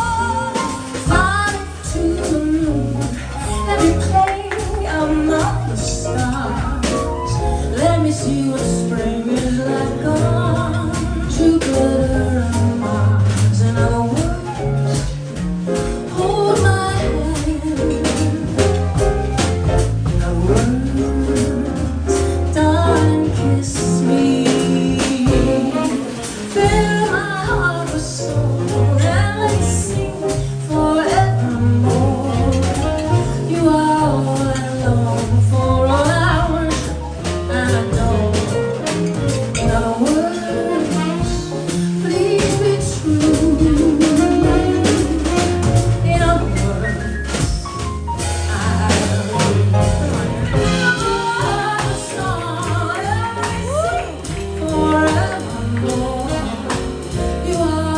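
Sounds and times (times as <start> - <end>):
jazz band playing: 0.0 - 57.9.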